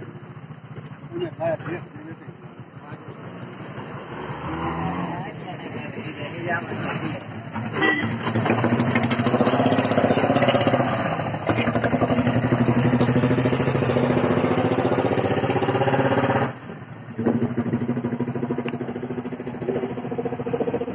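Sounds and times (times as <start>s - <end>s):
tractor engine idling: 0.0s - 4.0s, 5.3s - 20.9s.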